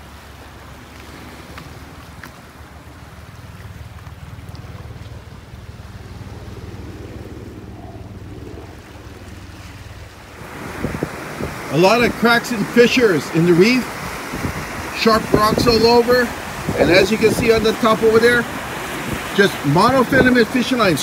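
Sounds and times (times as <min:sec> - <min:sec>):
surf on rocks: 0:00.0 - 0:21.0
wind rumbling on microphone: 0:00.0 - 0:21.0.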